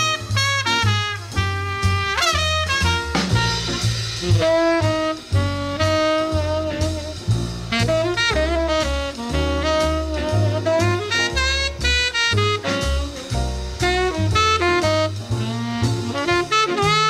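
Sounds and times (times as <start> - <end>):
bass line: 0.0 - 17.0
big band swing jazz: 0.0 - 17.0
horn section chords: 0.0 - 17.0.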